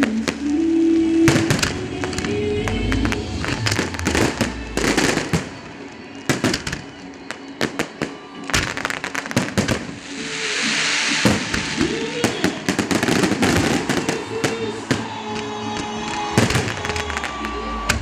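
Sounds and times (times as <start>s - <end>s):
fireworks bangs and pops: 1.2s - 2.4s, 3.5s - 18.0s.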